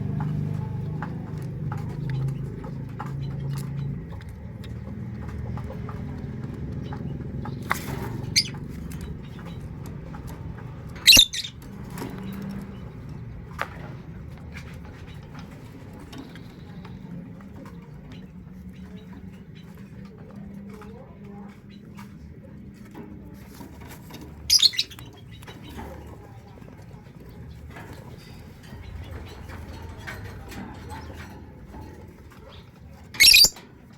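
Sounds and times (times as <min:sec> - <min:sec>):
dove tapping and scratching: 0:00.0 - 0:33.9.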